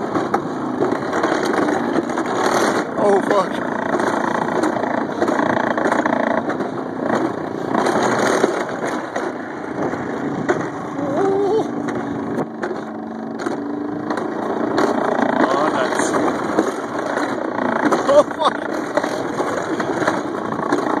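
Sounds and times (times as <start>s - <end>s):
sled wheels rattling on rail: 0.0s - 21.0s.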